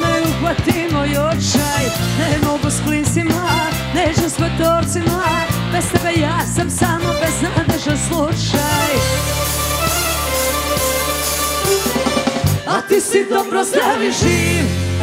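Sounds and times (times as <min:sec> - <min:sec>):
band music with singer: 0:00.0 - 0:15.0
steady drum beat: 0:00.0 - 0:15.0.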